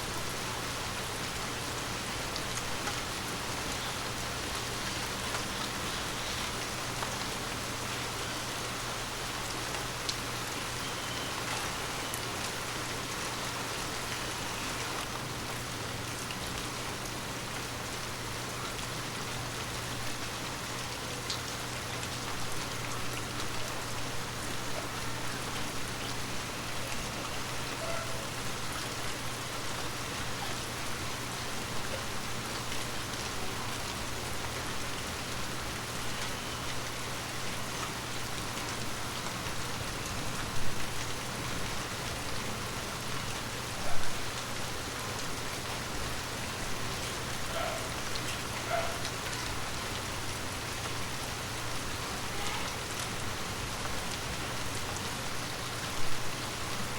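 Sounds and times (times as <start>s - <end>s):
rain falling on leaves: 0.0s - 56.9s.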